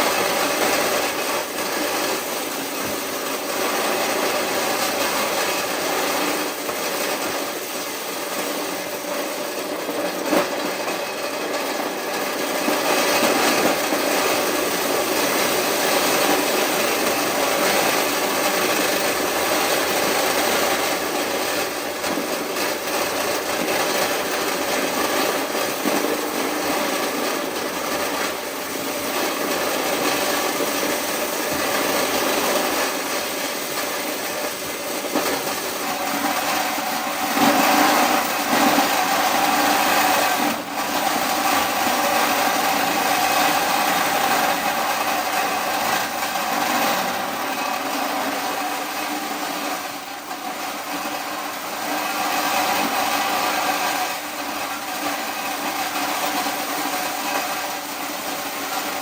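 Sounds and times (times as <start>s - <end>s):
corn-shelling machine rattling: 0.0s - 59.0s.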